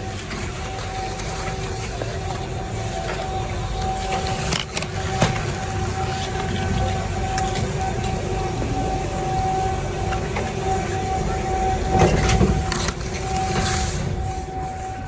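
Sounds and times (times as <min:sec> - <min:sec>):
lift machinery whine and rumble: 0:00.0 - 0:15.0
machinery clatter: 0:00.0 - 0:15.0.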